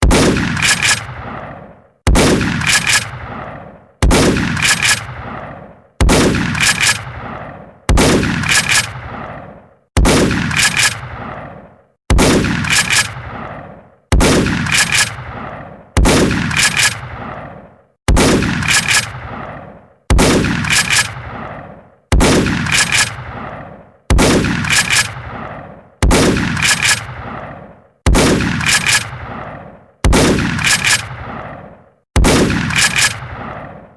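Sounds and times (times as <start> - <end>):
rumble: 0.0 - 33.9
shotgun blast: 0.0 - 33.9.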